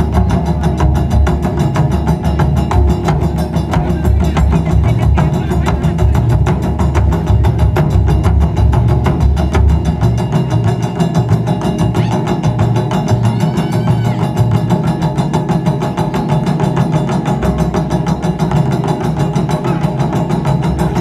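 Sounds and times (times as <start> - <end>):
drum ensemble playing: 0.0 - 21.0.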